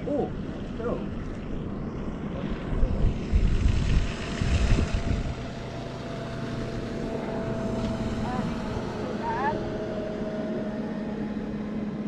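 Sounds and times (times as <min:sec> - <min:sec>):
wind buffeting microphone: 0:00.0 - 0:11.6
outboard motorboat engine droning: 0:00.0 - 0:12.0.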